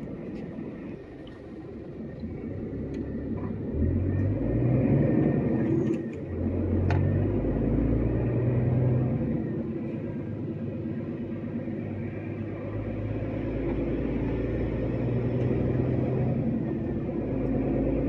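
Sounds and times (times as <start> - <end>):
truck diesel engine under load: 0.0 - 18.0.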